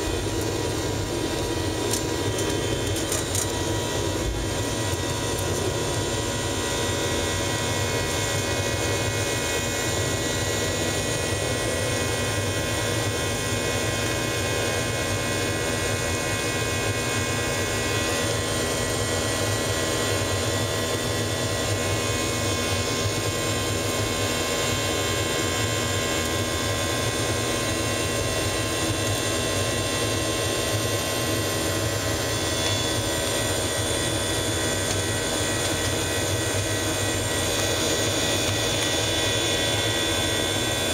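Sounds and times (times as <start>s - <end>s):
high whining fan tones: 0.0s - 40.9s
jet engine roar in cabin: 0.0s - 40.9s.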